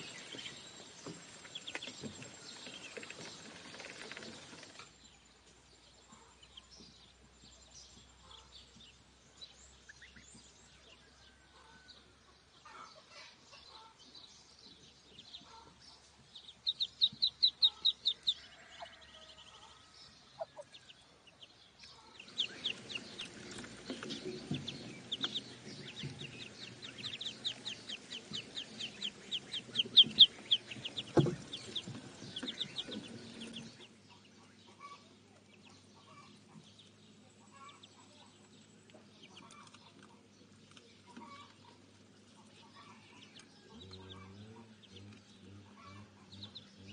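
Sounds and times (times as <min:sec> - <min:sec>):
ducklings peeping: 0:00.0 - 0:46.9.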